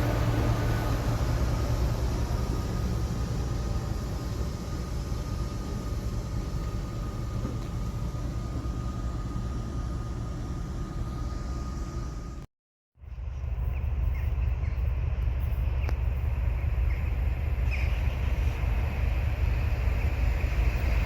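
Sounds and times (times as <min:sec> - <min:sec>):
train rumble with high whine: 0:00.0 - 0:21.0.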